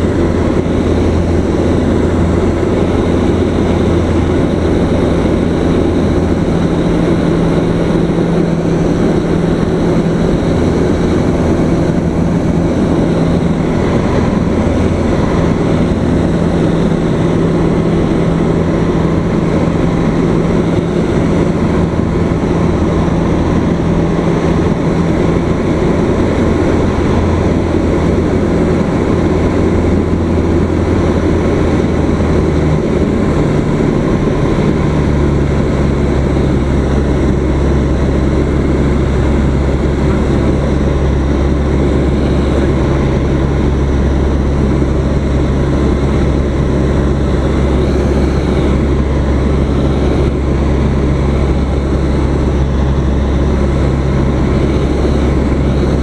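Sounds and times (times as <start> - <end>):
propeller airplane engine droning: 0.0 - 56.0.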